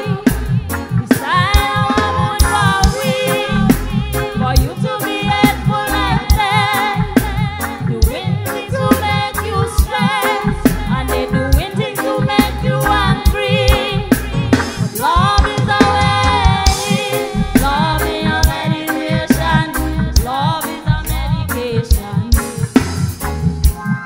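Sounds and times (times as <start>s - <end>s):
woman singing: 0.0s - 22.7s
reggae band playing: 0.0s - 24.0s.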